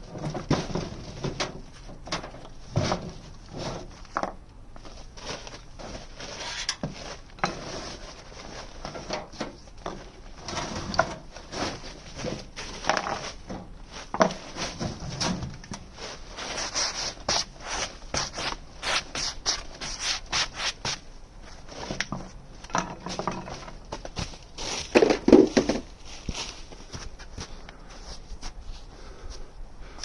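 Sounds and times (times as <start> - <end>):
scraping on wood: 0.0 - 28.6.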